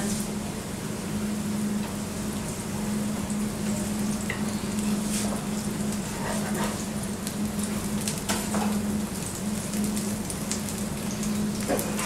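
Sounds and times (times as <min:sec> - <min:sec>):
batter sizzling in hot oil: 0:02.2 - 0:12.0.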